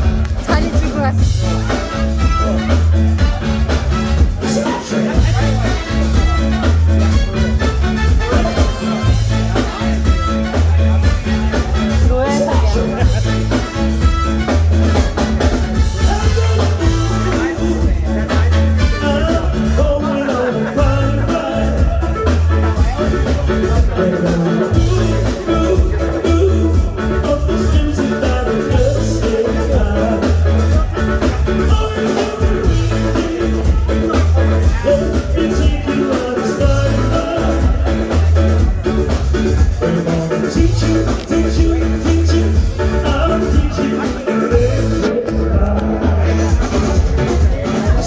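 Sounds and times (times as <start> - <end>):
pulsing bass beat: 0.0 - 48.0
upbeat pop song with singing: 0.0 - 48.0.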